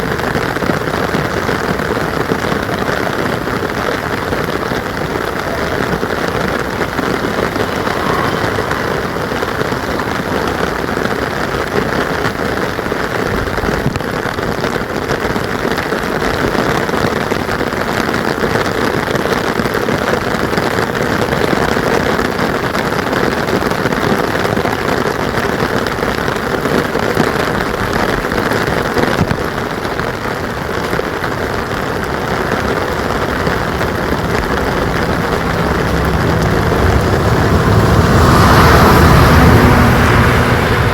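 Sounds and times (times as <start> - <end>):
heavy rain on surface: 0.0 - 40.9.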